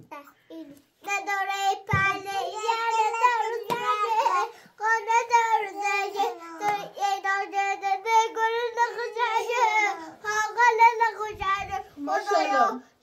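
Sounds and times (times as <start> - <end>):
young child singing: 0.0 - 12.0.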